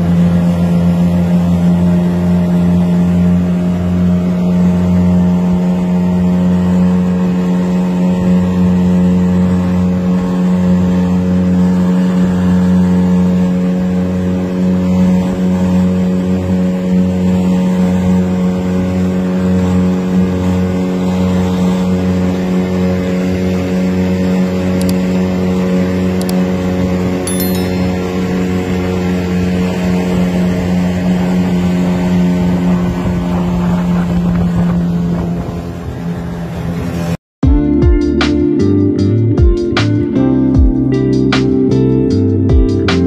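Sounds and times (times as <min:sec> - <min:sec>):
boat engine droning: 0:00.0 - 0:37.2.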